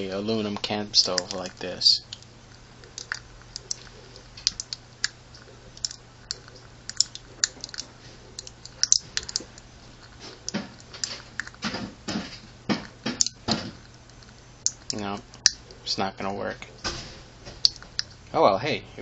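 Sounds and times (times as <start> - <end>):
burning wick crackling: 0.0 - 18.4.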